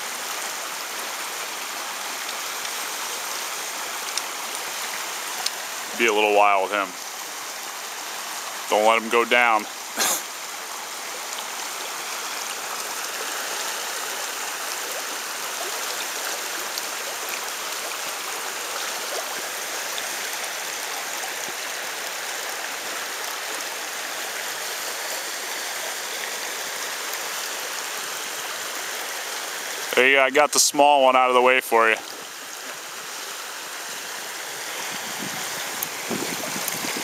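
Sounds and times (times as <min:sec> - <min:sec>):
river current rushing: 0:00.0 - 0:37.0.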